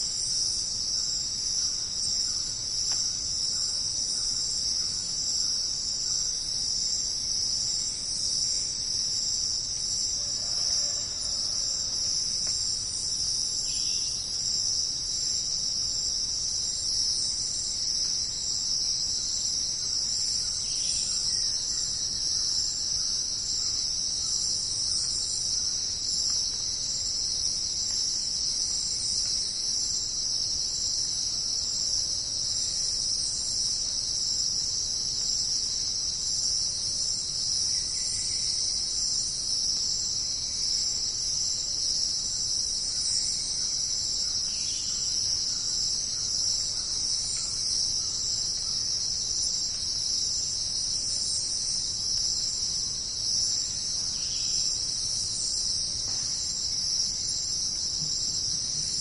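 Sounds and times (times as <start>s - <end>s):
insects buzzing shrilly: 7.7s - 59.0s.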